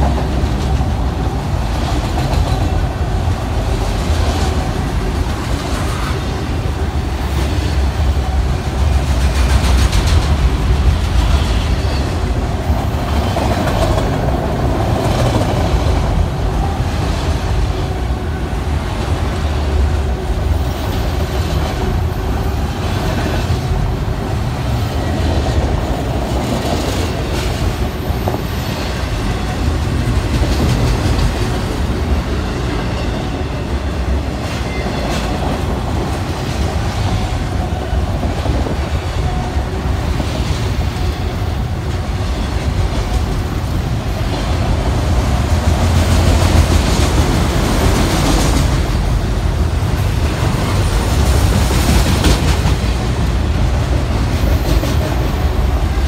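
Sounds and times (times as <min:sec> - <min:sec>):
train wheels clacking: 0:00.0 - 0:18.0, 0:19.0 - 0:56.0
train wheels rumbling on rails: 0:00.0 - 0:56.0.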